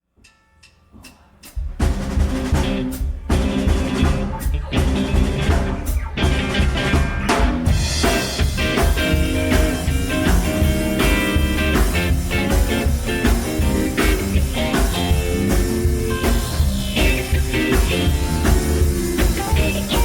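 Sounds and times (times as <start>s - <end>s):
rock band playing: 1.5s - 20.0s.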